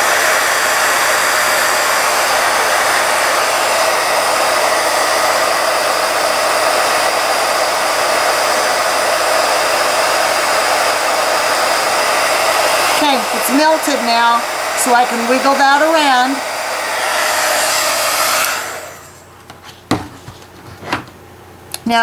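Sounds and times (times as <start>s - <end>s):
heat gun blowing air: 0.0s - 19.3s.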